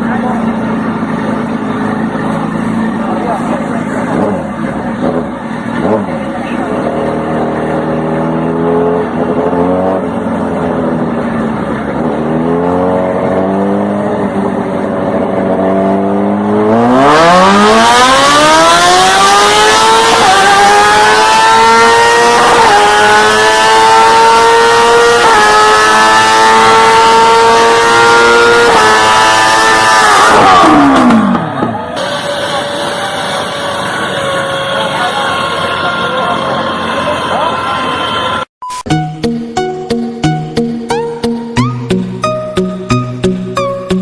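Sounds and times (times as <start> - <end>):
motorcycle engine revving: 0.0 - 38.5.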